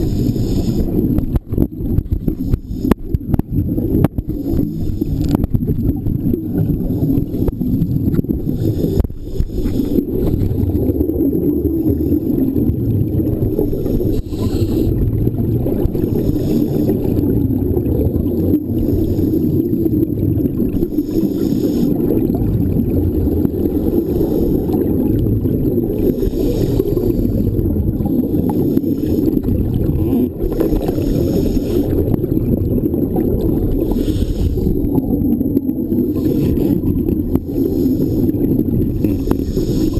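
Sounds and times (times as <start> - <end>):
low underwater rumble: 0.0 - 39.9
regulator bubbles hissing: 0.0 - 39.9.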